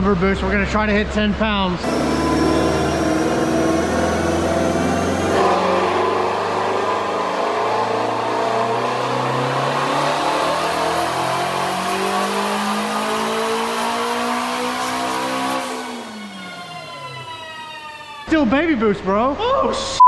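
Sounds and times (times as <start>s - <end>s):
car engine revving on dyno: 1.8s - 18.3s.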